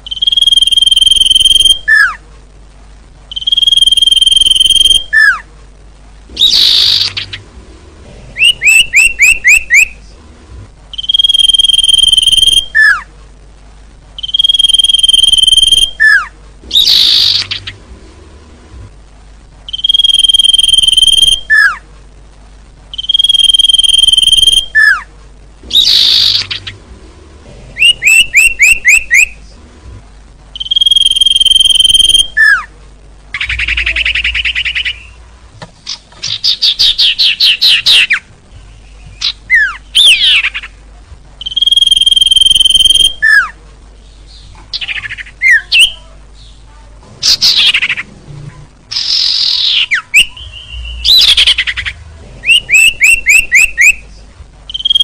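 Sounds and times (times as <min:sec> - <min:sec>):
songbirds calling: 0:00.0 - 0:02.2, 0:03.3 - 0:05.5, 0:06.3 - 0:10.2, 0:10.9 - 0:13.1, 0:14.2 - 0:18.2, 0:19.6 - 0:21.9, 0:22.9 - 0:29.7, 0:33.3 - 0:48.2, 0:48.9 - 0:55.0.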